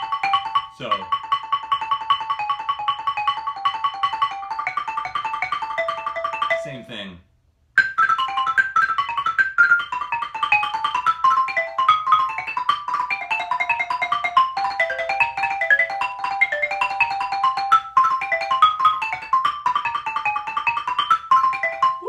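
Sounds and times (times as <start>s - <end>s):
xylophone played with mallets: 0.0s - 6.8s, 7.8s - 22.0s.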